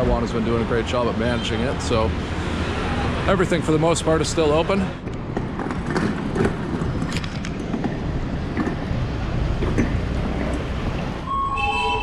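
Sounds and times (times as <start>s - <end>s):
rumble of passing vehicles: 0.0s - 12.0s.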